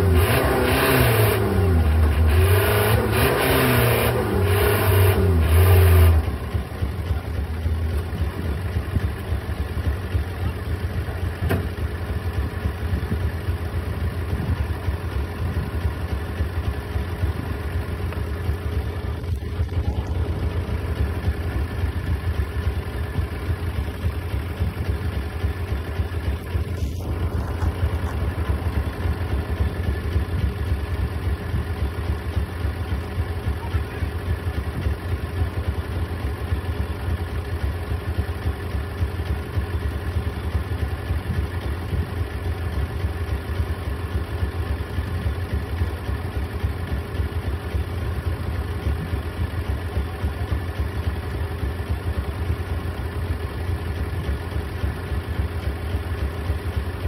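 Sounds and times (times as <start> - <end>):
diesel truck engine: 0.0 - 57.0.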